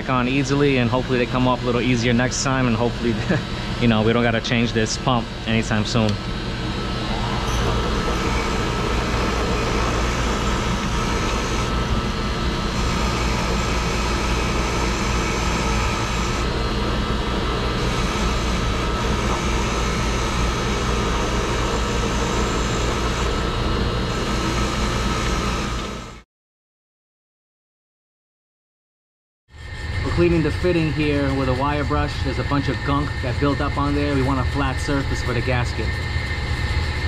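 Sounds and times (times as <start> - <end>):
bench grinder whining: 0.0 - 26.2, 29.6 - 37.0.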